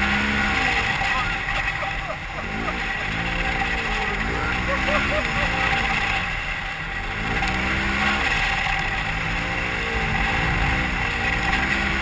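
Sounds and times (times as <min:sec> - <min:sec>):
drivetrain noise: 0:00.0 - 0:12.0
engine revving: 0:00.0 - 0:12.0.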